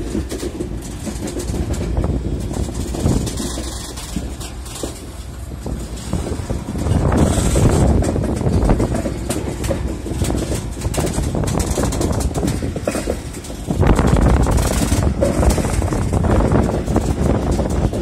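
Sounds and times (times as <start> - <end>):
freight train rumbling past: 0.0 - 18.0
wheel and coupling clanks: 0.0 - 18.0.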